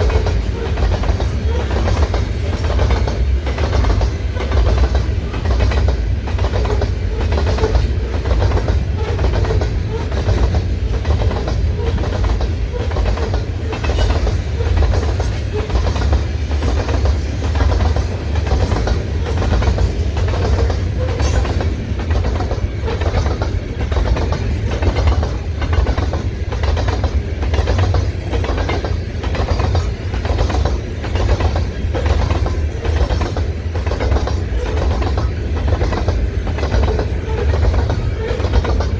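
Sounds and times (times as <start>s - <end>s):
deep rumble of train: 0.0s - 38.9s
train wheels clicking over rail joints: 0.0s - 38.9s.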